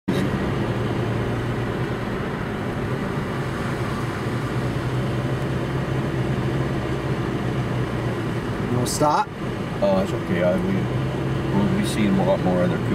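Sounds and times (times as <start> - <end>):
road noise: 0.0 - 12.9
car engine hum: 0.1 - 12.9.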